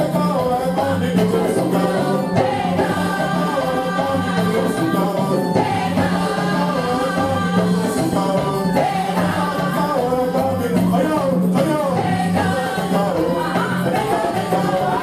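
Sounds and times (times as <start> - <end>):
gospel voices singing: 0.0 - 15.0
instrumental accompaniment with bass: 0.0 - 15.0.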